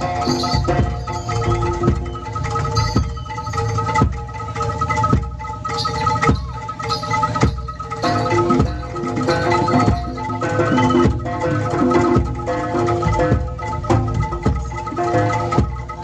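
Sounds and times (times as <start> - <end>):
drum beats: 0.0 - 16.0
held tones: 0.0 - 16.0
metal mallet percussion: 0.0 - 16.0.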